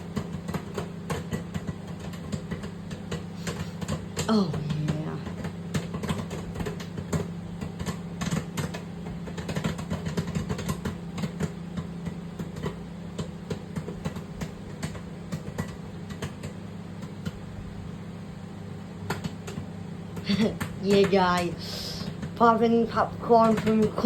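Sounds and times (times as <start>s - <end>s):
microwave oven hum: 0.0s - 24.0s
popcorn popping: 0.0s - 24.0s.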